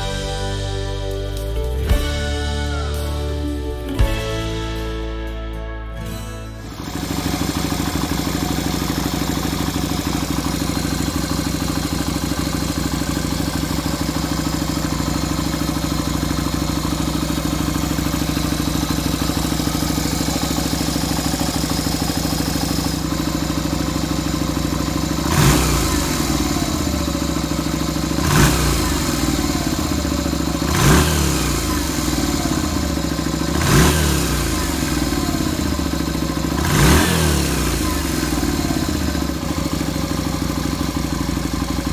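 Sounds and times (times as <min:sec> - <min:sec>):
motorcycle engine idling and revving: 0:00.0 - 0:05.5, 0:06.1 - 0:41.9.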